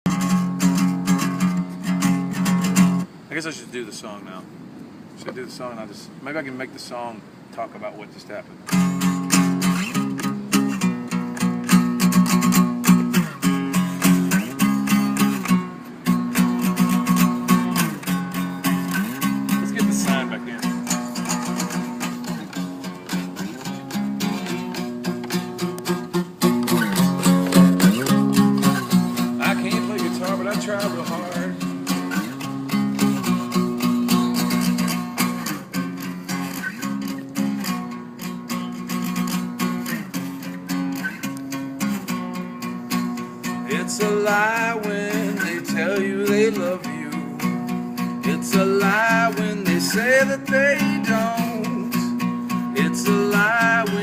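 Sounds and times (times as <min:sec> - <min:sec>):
guitar strumming: 0:00.1 - 0:03.2, 0:08.6 - 0:54.0.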